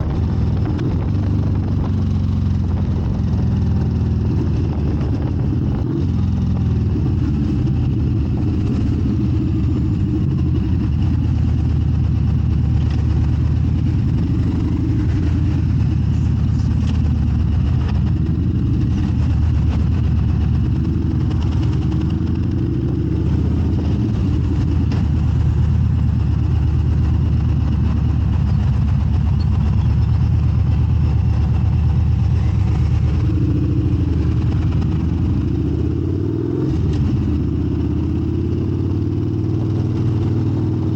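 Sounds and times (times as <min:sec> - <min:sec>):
scooter engine: 0:00.0 - 0:40.9.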